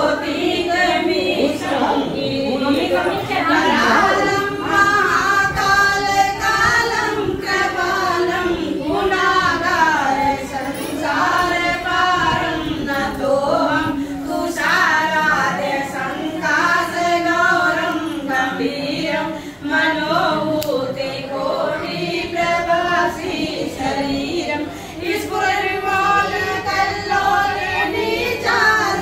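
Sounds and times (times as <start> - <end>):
group of women singing: 0.0 - 29.0.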